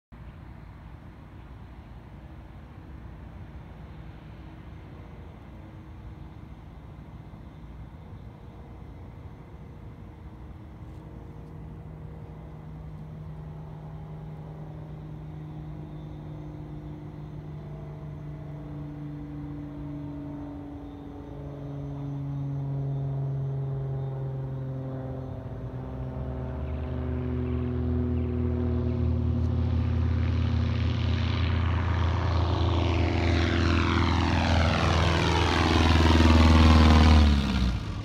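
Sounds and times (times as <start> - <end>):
propeller plane engine running: 0.2 - 38.0.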